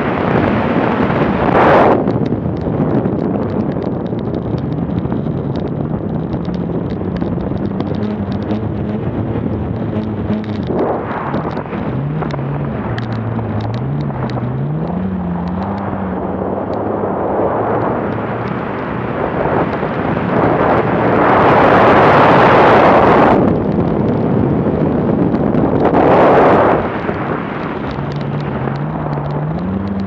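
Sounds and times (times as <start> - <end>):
car engine running hard: 0.0 - 30.0
wind rushing over microphone: 0.0 - 30.0.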